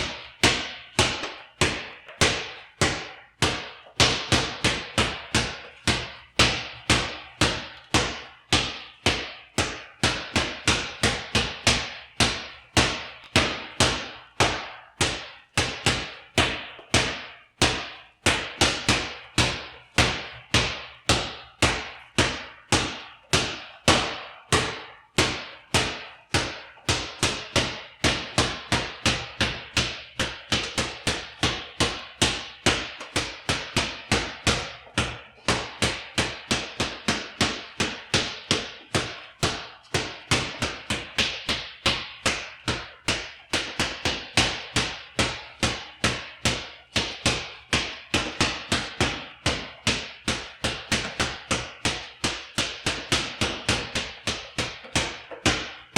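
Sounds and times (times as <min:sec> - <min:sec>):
basketball bouncing on hard floor: 0:00.0 - 0:55.9.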